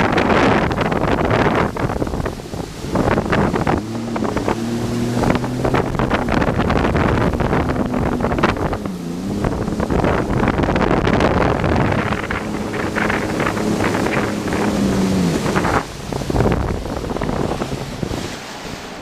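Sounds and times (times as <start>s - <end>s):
jet ski engine: 0.0s - 19.0s
wind buffeting microphone: 0.0s - 19.0s.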